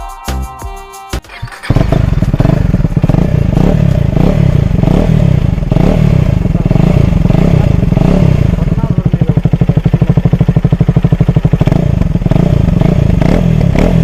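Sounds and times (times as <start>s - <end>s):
motorcycle engine revving: 1.4s - 14.0s.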